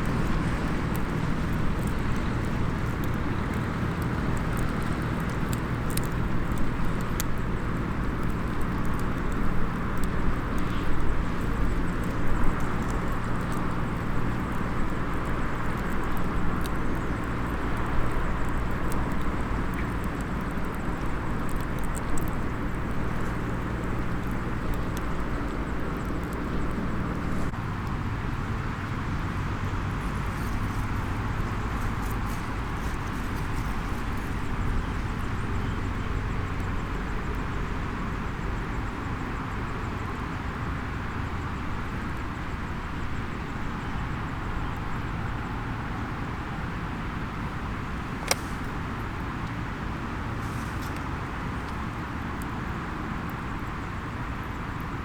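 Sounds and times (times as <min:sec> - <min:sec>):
low engine hum: 0:00.0 - 0:55.0
outdoor background noise: 0:00.0 - 0:55.0
small wood fire crackling: 0:00.0 - 0:55.0.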